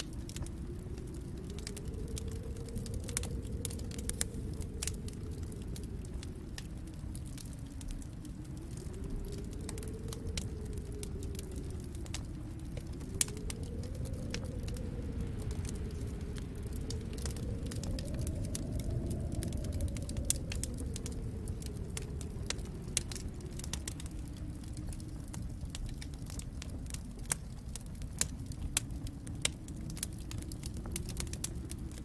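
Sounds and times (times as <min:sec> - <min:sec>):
faint hum: 0:00.0 - 0:26.1
low steady rumble: 0:00.0 - 0:32.0
wood fire crackling: 0:00.0 - 0:32.0.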